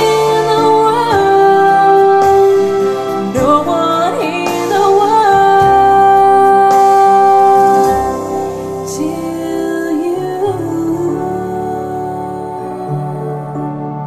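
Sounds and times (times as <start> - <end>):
music with long held notes: 0.0 - 14.0.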